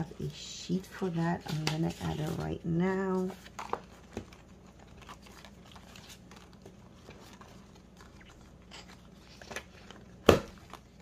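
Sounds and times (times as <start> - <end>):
paper sheet rustling: 0.9 - 11.0.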